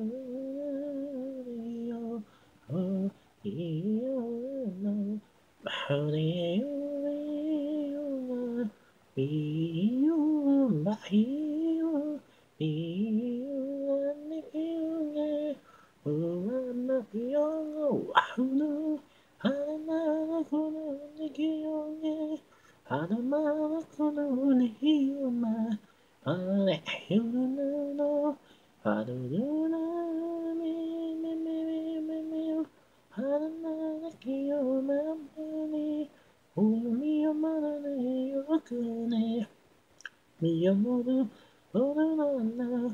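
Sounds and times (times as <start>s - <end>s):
man singing unaccompanied: 0.0s - 42.9s.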